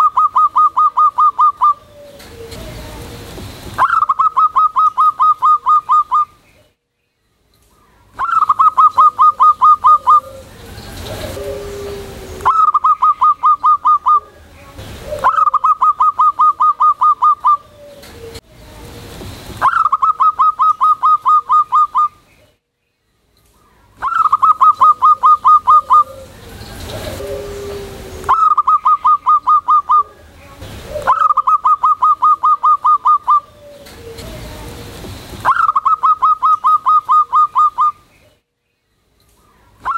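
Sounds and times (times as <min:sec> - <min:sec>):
dove cooing: 0:00.0 - 0:06.4, 0:08.2 - 0:22.2, 0:24.0 - 0:38.0.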